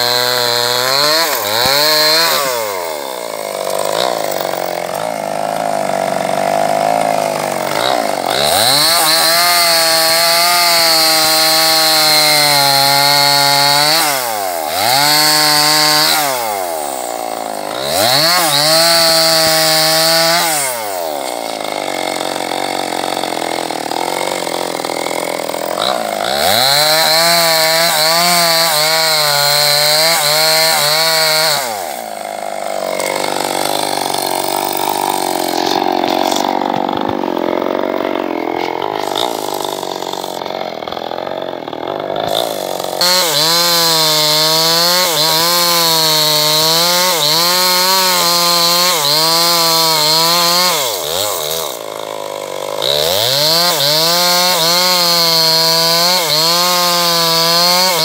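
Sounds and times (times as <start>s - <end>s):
chainsaw idling and cutting: 0.0s - 58.0s.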